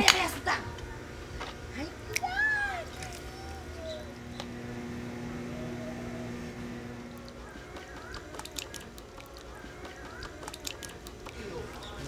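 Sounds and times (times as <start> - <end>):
steady low hum: 0.0 - 12.0
faint chirps: 2.1 - 12.0.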